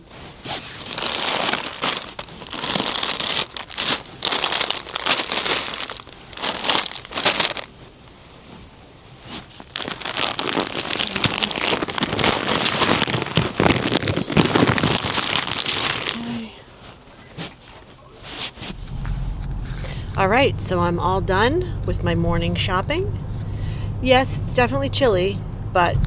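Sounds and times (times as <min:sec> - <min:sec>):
crinkling and rustling: 0:00.0 - 0:24.2.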